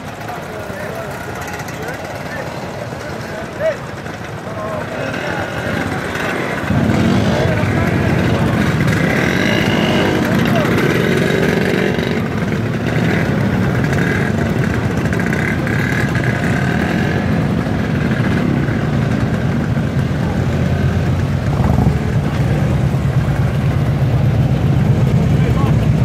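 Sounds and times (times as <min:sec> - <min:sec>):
motorcycle engines rumbling: 0:00.0 - 0:26.0.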